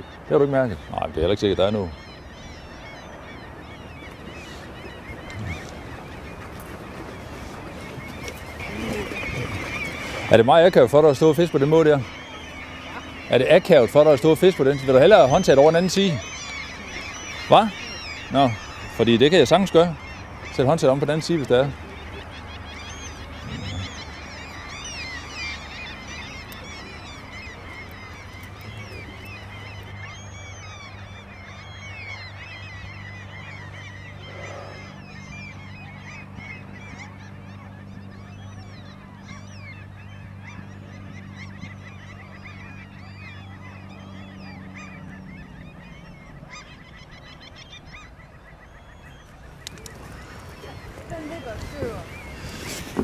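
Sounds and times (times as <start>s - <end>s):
flock of birds calling: 0.0s - 53.0s
steady low hum: 0.0s - 53.0s.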